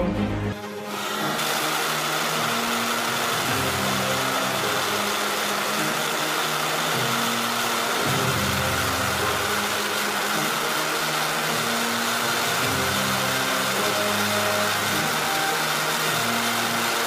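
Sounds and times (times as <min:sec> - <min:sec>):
background music low notes: 0:00.0 - 0:17.0
rocket motor roaring: 0:00.6 - 0:17.0.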